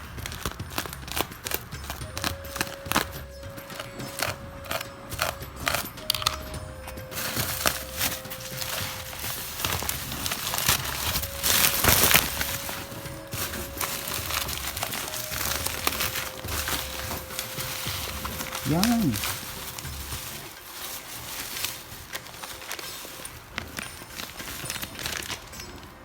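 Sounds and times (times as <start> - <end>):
bubble wrap sharp clicks: 0.0 - 26.0
packaging crinkling and rustling: 0.0 - 26.0.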